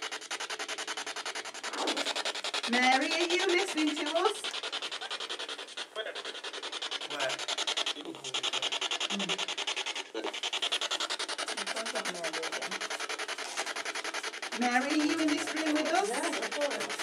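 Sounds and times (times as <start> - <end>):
snatches of broadcast voices: 1.7 - 9.2, 10.2 - 17.0.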